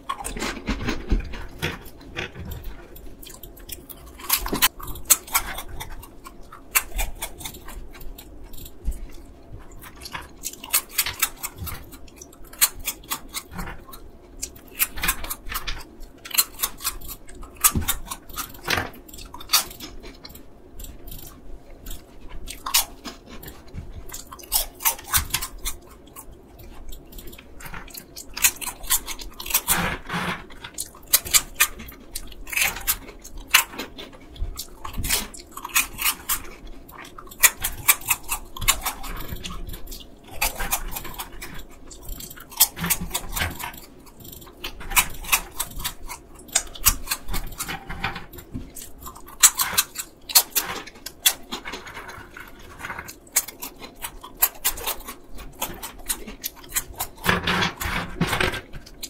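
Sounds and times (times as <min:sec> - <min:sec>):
crunchy snack chewing: 0:00.0 - 0:59.0.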